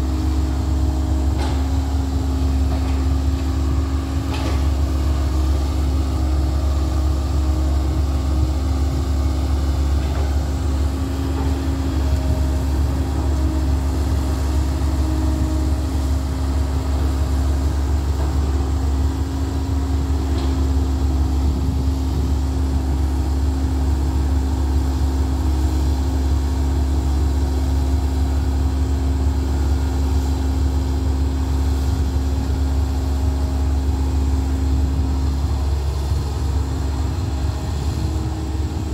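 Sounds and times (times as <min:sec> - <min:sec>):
heavy diesel engines rumbling: 0:00.0 - 0:38.9.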